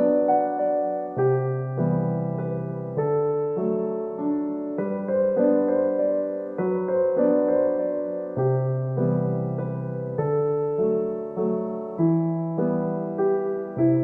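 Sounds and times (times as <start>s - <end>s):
gentle electric piano: 0.0s - 14.0s.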